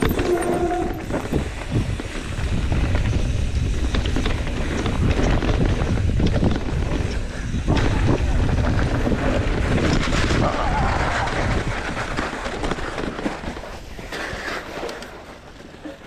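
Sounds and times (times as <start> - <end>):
wind rushing over microphone: 0.0 - 14.6
bike rattling over bumps: 0.0 - 16.0
bike tyres rumbling over dirt: 0.0 - 16.0.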